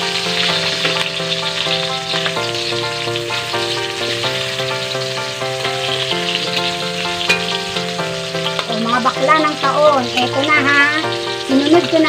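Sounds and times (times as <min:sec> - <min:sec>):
background music: 0:00.0 - 0:12.0
food sizzling in hot oil: 0:00.0 - 0:12.0.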